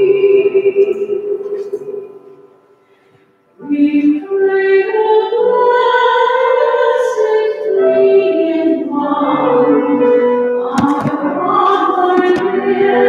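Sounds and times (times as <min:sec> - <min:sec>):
woman singing a hymn: 0:00.0 - 0:01.7, 0:03.6 - 0:13.0.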